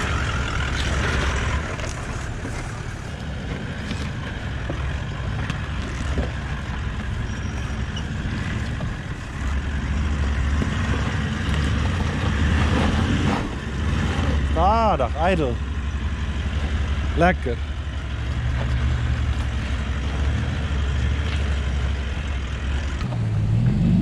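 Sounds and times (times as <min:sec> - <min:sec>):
off-road vehicle engine at low revs: 0:00.0 - 0:24.0.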